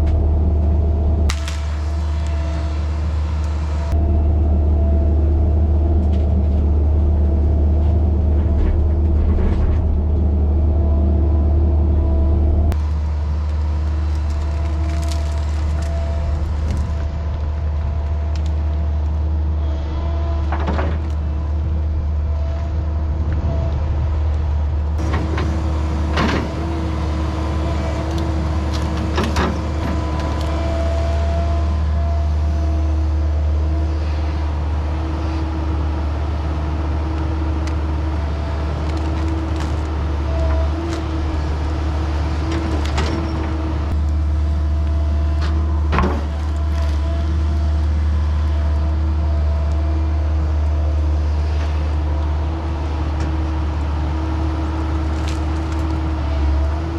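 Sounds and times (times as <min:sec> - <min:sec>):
constant whine: 0:00.0 - 0:56.8
heavy machine engine running: 0:00.0 - 0:56.9.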